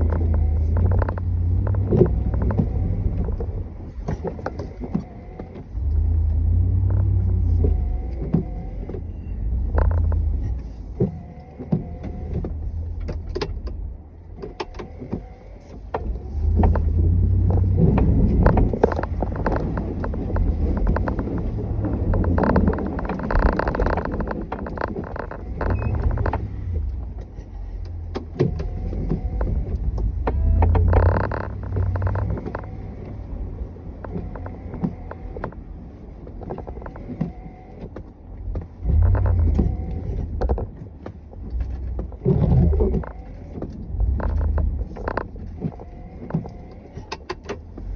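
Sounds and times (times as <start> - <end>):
knocks and clunks: 0.0 - 47.9
snowplow engine rumble: 0.0 - 47.9.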